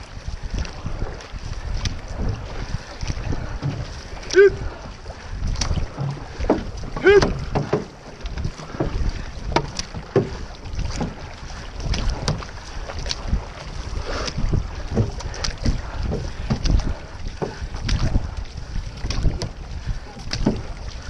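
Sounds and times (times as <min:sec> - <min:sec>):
paddles splashing water: 0:00.0 - 0:21.0
wind rumble on microphone: 0:00.0 - 0:21.0.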